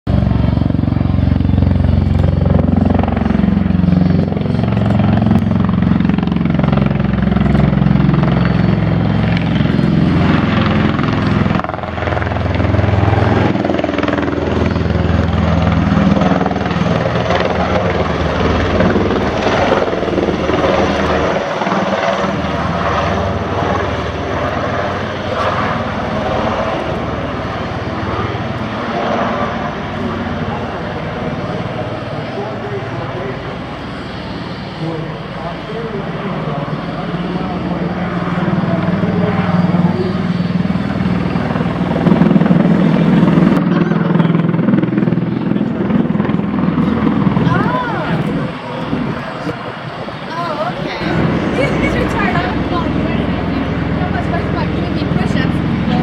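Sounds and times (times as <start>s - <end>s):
aircraft proprotors thrumming: 0.1s - 56.0s.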